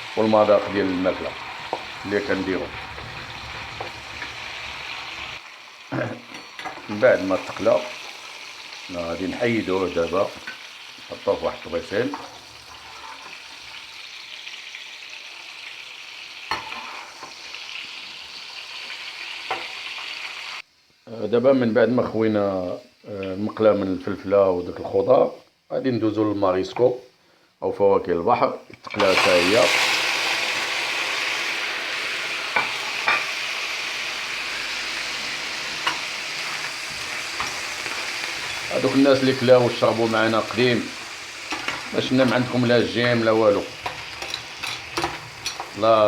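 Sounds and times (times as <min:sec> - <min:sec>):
vegetables sizzling in hot oil: 0:00.0 - 0:25.2, 0:28.8 - 0:46.0.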